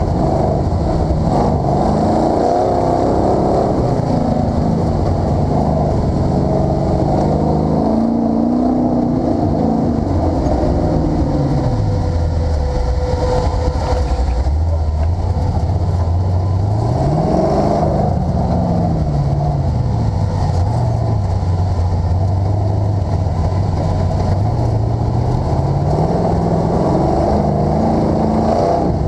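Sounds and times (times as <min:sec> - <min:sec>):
sand car engine running hard: 0:00.0 - 0:29.0.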